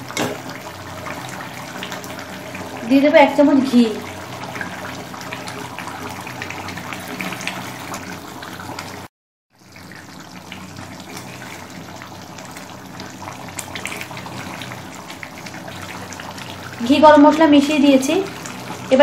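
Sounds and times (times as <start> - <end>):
curry bubbling and popping: 0.0 - 3.0, 3.6 - 19.0.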